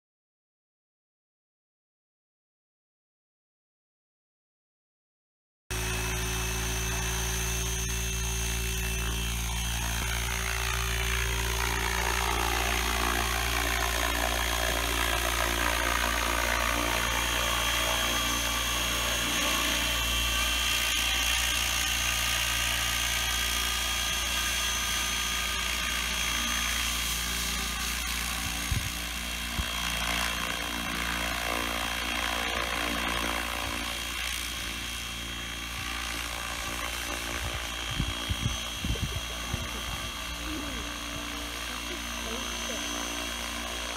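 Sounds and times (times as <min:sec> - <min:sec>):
small helicopter motor and rotor: 0:05.7 - 0:43.9.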